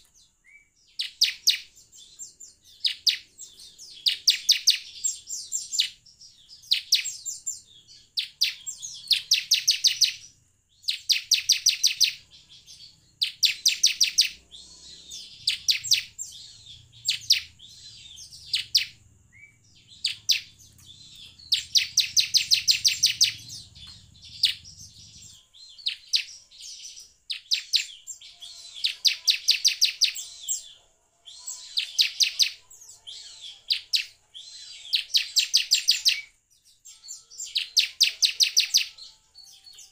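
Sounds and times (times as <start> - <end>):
bird singing high repeated notes: 0.0 - 39.9.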